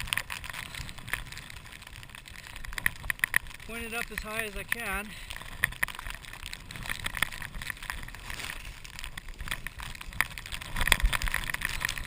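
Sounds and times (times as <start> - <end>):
skis scraping over slushy snow: 0.0 - 12.0.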